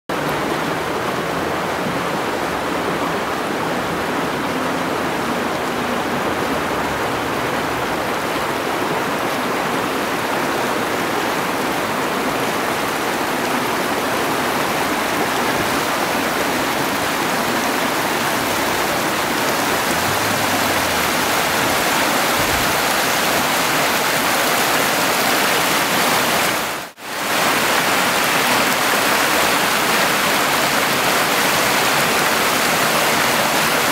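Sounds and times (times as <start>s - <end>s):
river rushing over stones: 0.1s - 33.9s.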